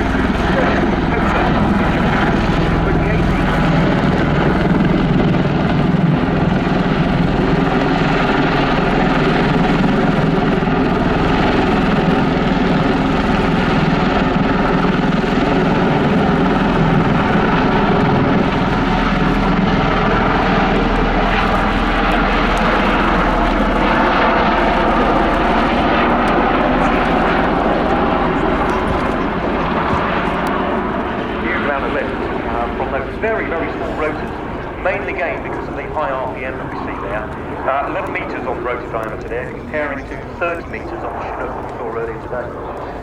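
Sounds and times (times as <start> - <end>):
tilt-rotor aircraft drone: 0.0 - 43.0.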